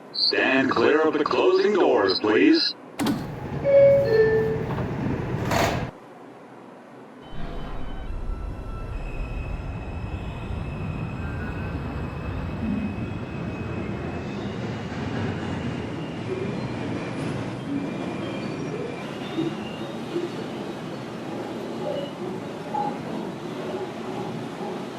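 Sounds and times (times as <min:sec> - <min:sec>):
rumble of train wheels: 0:02.9 - 0:24.9.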